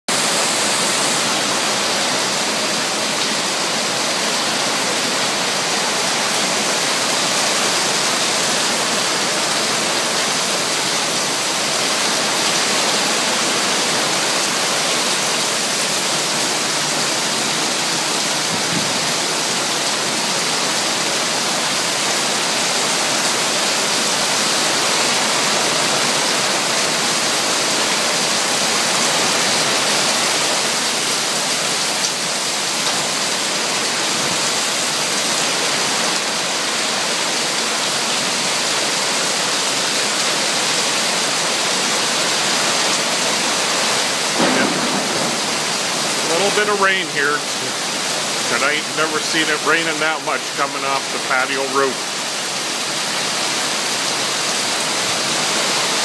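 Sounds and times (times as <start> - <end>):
heavy rain falling: 0.1 - 56.0
water pouring off a roof: 0.1 - 56.0.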